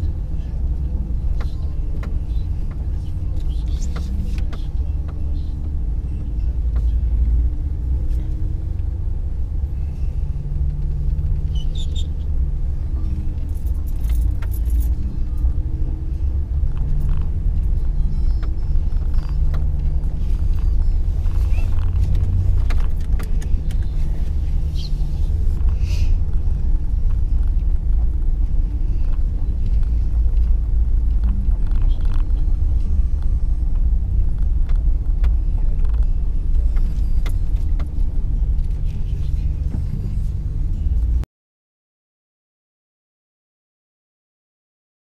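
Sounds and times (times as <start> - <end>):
vehicle engine and road rumble: 0.0 - 41.3.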